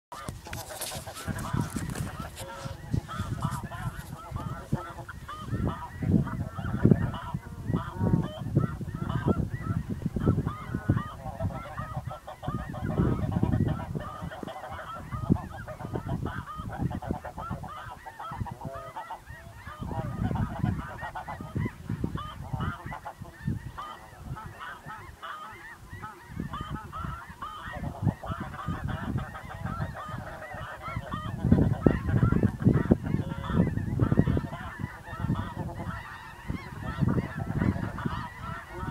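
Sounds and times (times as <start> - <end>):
snow geese honking: 0.1 - 38.9.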